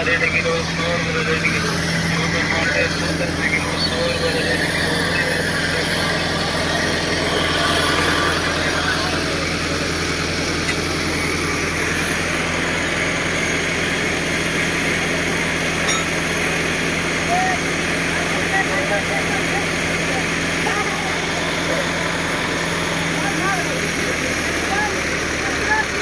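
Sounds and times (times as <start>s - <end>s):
diesel engines idling: 0.0s - 26.0s.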